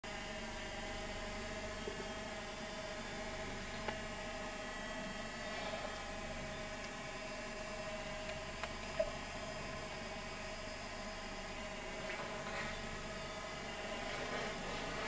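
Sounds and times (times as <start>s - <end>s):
steady electrical hum: 0.0s - 15.0s
faint whine: 0.1s - 15.0s.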